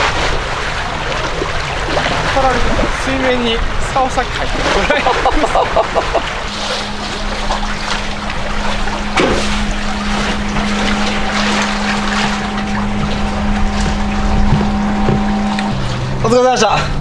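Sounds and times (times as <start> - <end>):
boat engine droning: 0.0 - 17.0
steady tone: 0.0 - 17.0
water noise: 0.0 - 17.0
wind: 0.0 - 17.0.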